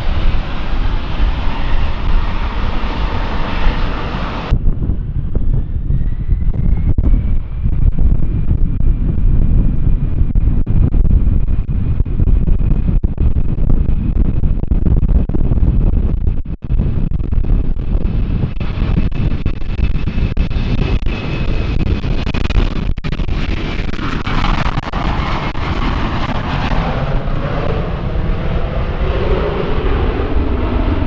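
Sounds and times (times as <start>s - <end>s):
airliner engines rumbling and whining: 0.0s - 31.0s.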